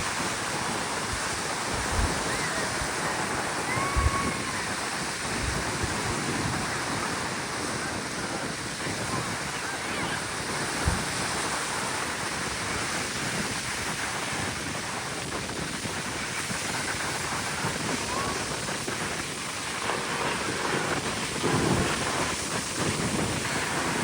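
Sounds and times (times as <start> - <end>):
breaking surf: 0.0 - 24.0
wind noise on microphone: 0.0 - 24.0.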